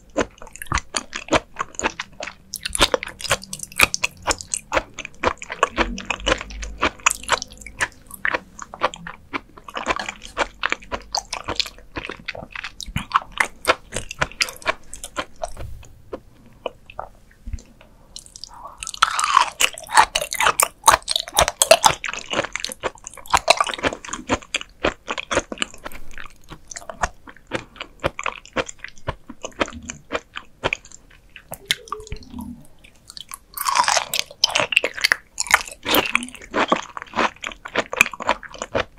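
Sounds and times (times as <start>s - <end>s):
wet crunchy chewing: 0.0s - 38.9s.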